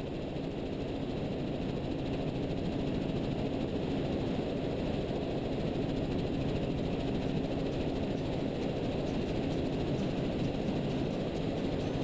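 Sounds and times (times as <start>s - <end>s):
helicopter engine and rotor noise: 0.0s - 12.0s.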